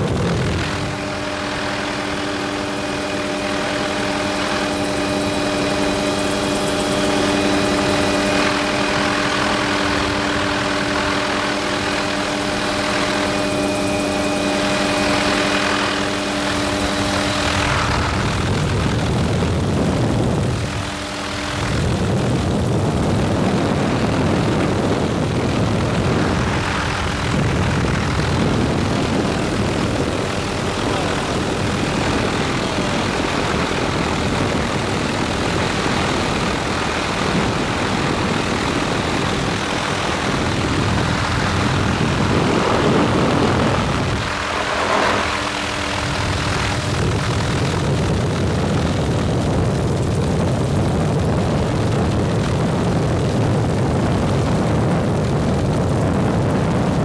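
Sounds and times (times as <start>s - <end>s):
helicopter engine and rotor noise: 0.0s - 57.0s.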